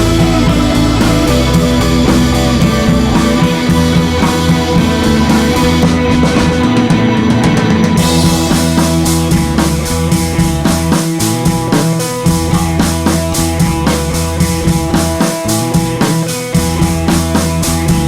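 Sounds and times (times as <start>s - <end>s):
rock backing music: 0.0s - 18.0s.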